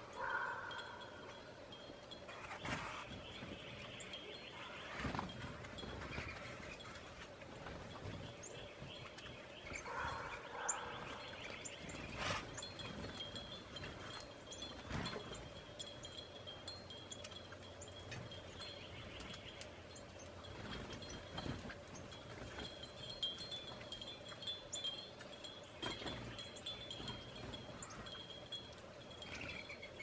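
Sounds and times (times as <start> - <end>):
small birds chirping: 0.0 - 30.0
wind chimes ringing: 0.0 - 30.0.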